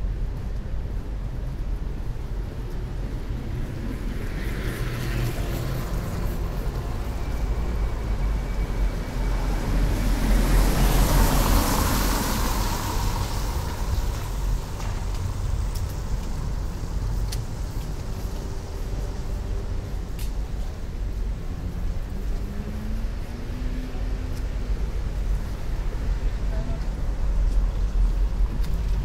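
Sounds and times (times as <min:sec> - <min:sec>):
low rumble of city traffic: 0:00.0 - 0:29.0.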